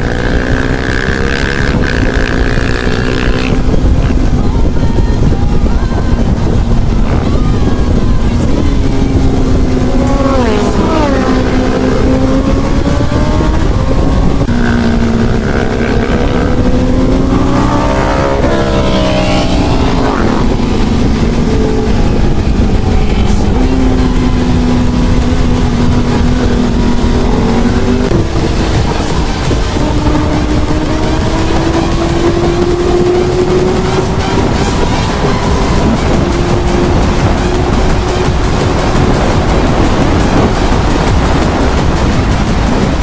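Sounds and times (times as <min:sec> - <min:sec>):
motorcycle engine running: 0:00.0 - 0:43.0
wind rushing: 0:00.0 - 0:43.0.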